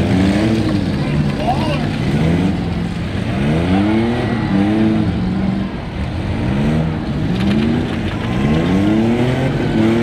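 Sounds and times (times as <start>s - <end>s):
engines revving hard: 0.0s - 10.0s
steady engine rumble: 0.0s - 10.0s.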